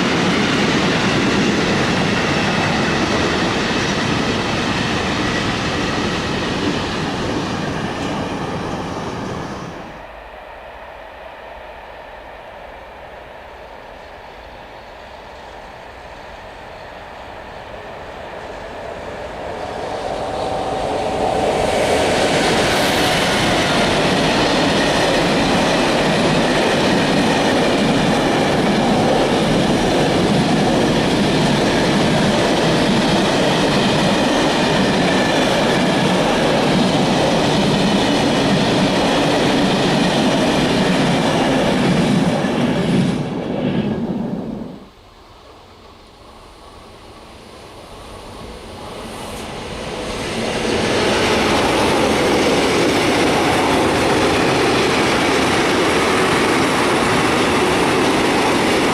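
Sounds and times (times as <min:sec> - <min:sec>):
freight train passing: 0:00.0 - 0:58.9.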